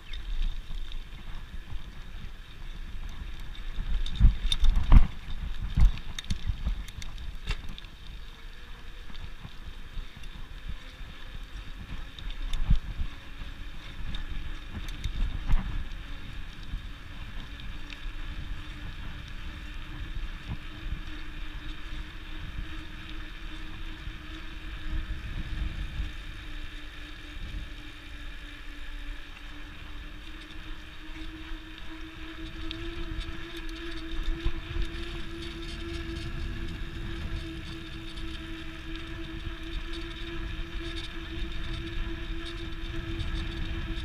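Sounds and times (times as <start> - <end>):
bicycle riding on pavement: 0.0 - 44.0
steady droning hum: 0.0 - 44.0
wind buffeting microphone: 0.0 - 44.0.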